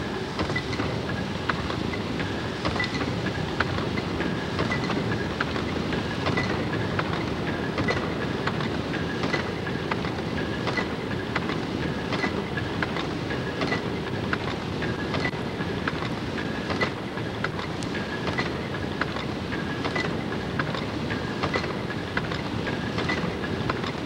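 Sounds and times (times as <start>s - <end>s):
steam engine clatter: 0.0s - 24.0s.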